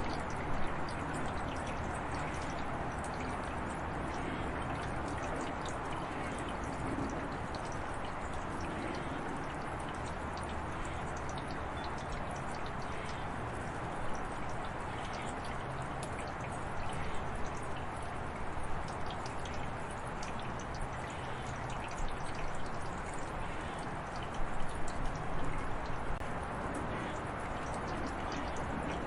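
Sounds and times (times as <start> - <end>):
heavy rain: 0.0 - 21.6, 22.8 - 29.0.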